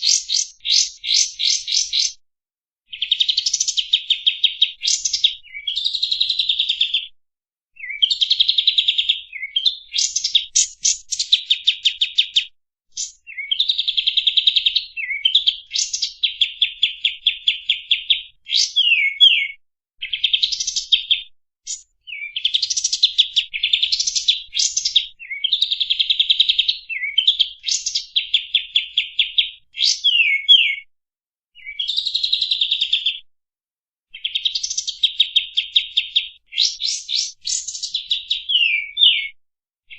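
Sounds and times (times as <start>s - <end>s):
songbird trilling and chirping: 0.0s - 2.2s, 2.9s - 7.1s, 7.8s - 30.8s, 31.6s - 33.2s, 34.2s - 39.3s.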